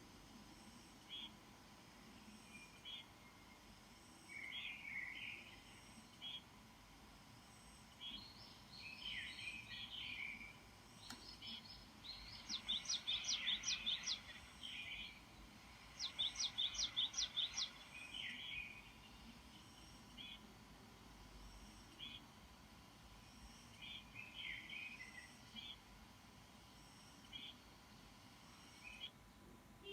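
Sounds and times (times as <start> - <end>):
small birds warbling song: 0.9 - 29.9.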